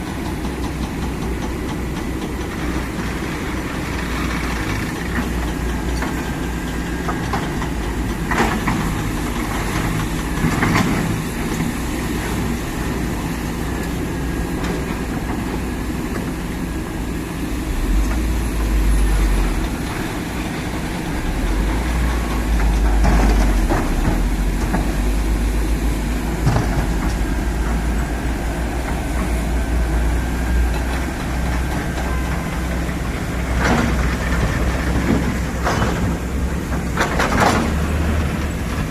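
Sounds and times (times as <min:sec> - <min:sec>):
excavator diesel engine rumbling: 0:00.0 - 0:38.9.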